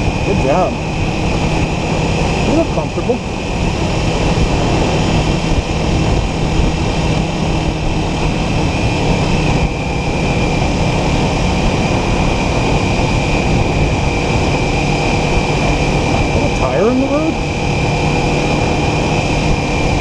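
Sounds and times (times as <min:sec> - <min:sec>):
motorcycle engine cruising: 0:00.0 - 0:20.0
wind rushing over microphone: 0:00.0 - 0:20.0.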